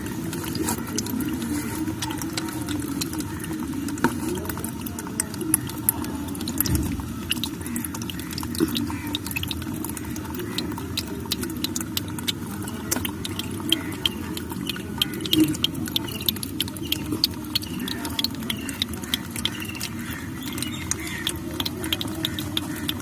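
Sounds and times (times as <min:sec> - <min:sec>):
fish gulping at water surface: 0:00.0 - 0:23.0.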